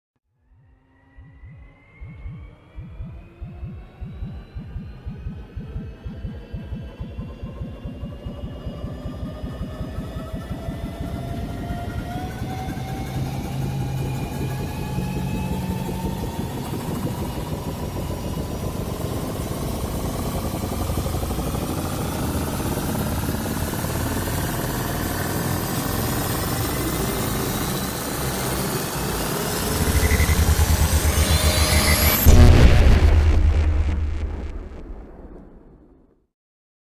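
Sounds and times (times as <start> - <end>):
whining tones rising in pitch: 0.6 - 34.8
fast pulsing low throb: 1.1 - 35.3.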